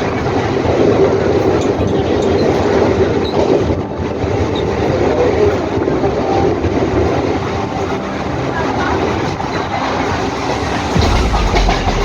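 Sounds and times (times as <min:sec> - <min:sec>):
electric train hum: 0:00.0 - 0:12.0.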